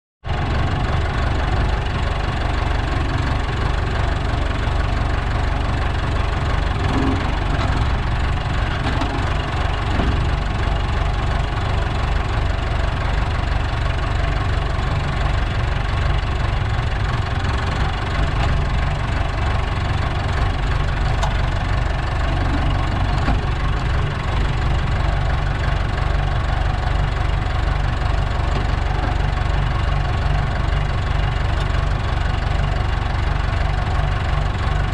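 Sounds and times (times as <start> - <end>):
tractor diesel engine idling: 0.2 - 34.9.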